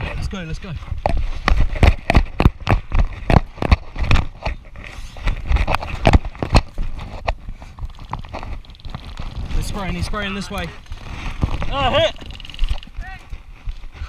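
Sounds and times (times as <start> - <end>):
gear rattling: 1.0 - 13.9.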